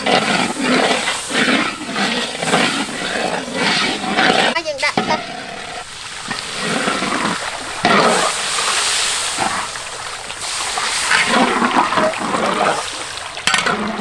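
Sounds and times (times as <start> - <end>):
water pouring into wok: 0.0 - 14.0
water splashing into oil: 0.0 - 14.0.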